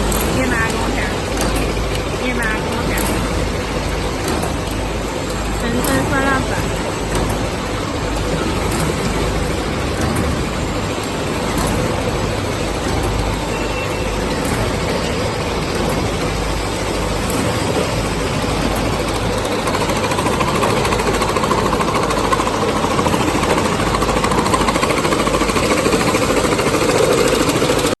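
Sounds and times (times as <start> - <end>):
packaging machine clattering: 0.0 - 27.9.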